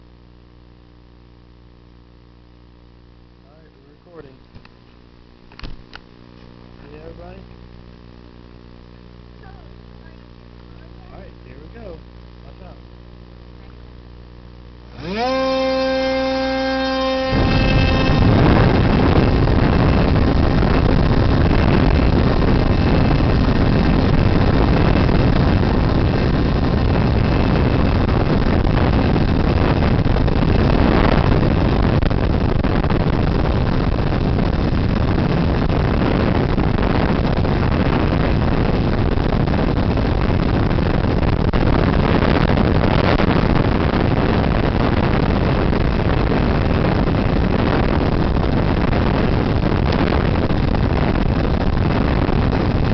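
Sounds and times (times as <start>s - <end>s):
propeller noise: 3.6s - 52.9s.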